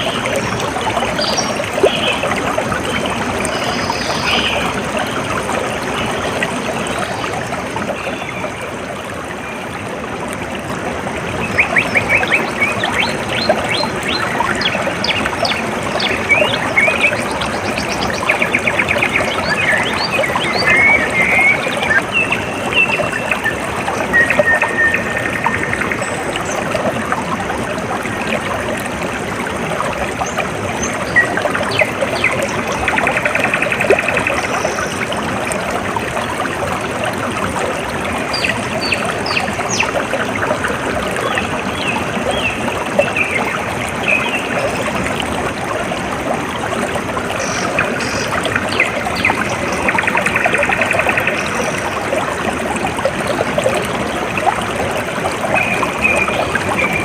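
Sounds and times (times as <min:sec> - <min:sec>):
stream trickling and gurgling: 0:00.0 - 0:57.0.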